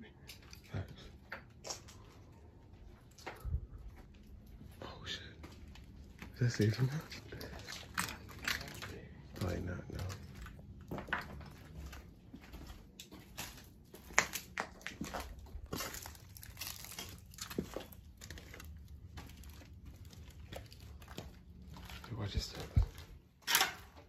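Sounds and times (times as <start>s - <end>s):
footsteps crunching on debris: 1.5s - 24.0s.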